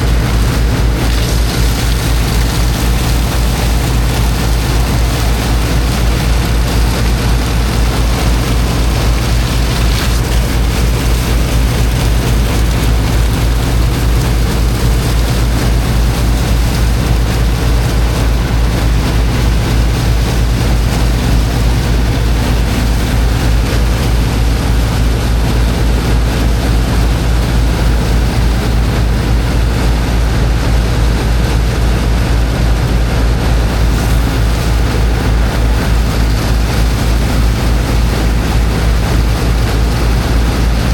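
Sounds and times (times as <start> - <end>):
water jetting: 0.0 - 32.3, 33.5 - 40.9
water pump engine humming: 0.0 - 40.9.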